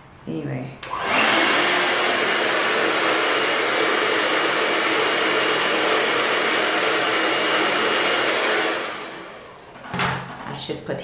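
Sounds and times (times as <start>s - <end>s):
hair dryer blowing air: 0.8s - 9.7s
hair dryer motor whine: 0.8s - 9.7s.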